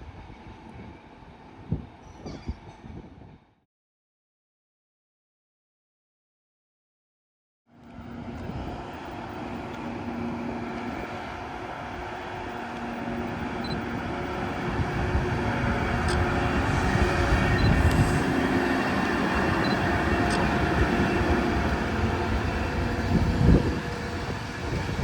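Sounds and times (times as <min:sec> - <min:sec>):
electric train rumble and hum: 0:00.0 - 0:03.6, 0:07.7 - 0:25.0.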